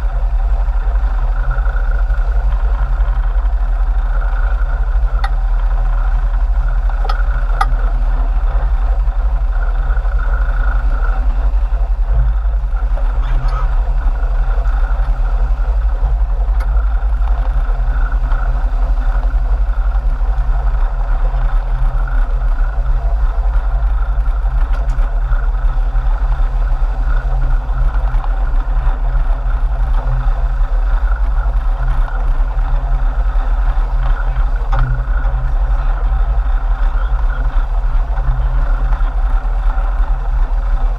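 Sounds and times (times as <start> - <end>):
boat engines droning: 0.0 - 40.9.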